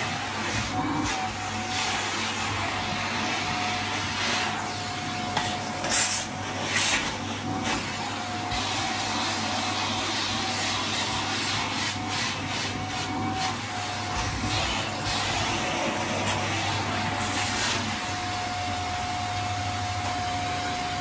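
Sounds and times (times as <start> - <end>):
vacuum cleaner running: 0.0 - 21.0
vacuum wand scraping carpet: 0.0 - 21.0.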